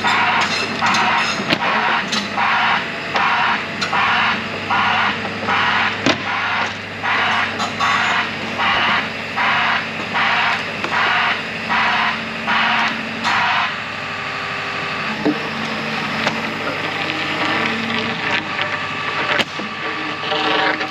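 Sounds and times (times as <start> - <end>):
excavator diesel engine running: 0.0 - 20.9
pulsing travel alarm: 0.0 - 20.9.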